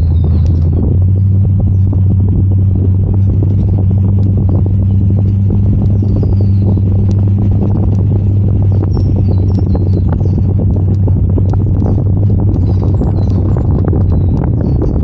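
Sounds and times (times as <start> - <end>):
knocks and rattles: 0.0 - 15.0
vehicle engine drone: 0.0 - 15.0.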